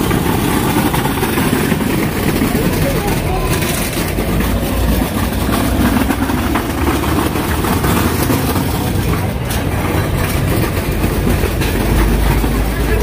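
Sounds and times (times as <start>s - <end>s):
low engine rumble with hiss: 0.0s - 13.0s.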